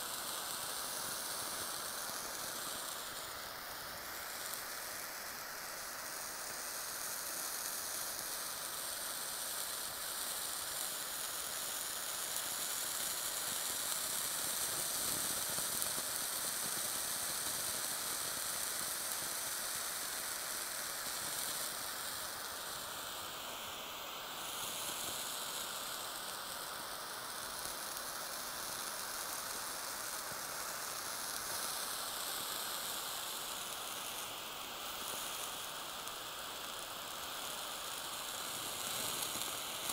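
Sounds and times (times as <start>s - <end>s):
blowtorch flame hissing: 0.0s - 39.9s
cheese sizzling: 0.0s - 39.9s.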